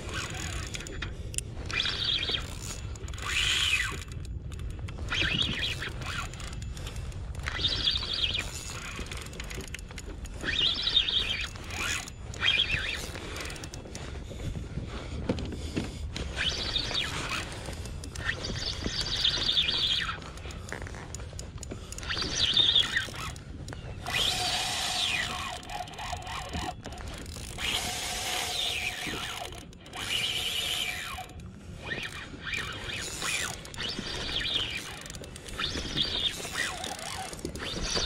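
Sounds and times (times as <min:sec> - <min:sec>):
fishing reel clicking and whirring: 0:00.0 - 0:14.6, 0:16.2 - 0:38.0.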